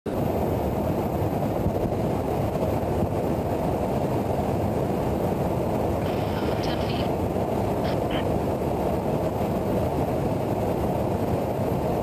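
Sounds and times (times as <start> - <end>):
aircraft cabin roar: 0.1 - 12.0.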